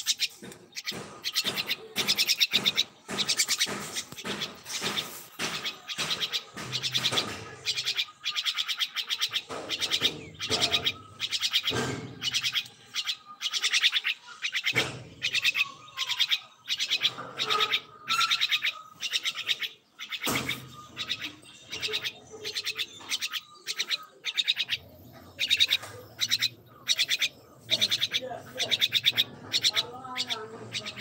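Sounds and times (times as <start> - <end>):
songbird rattling chatter: 0.0 - 31.0.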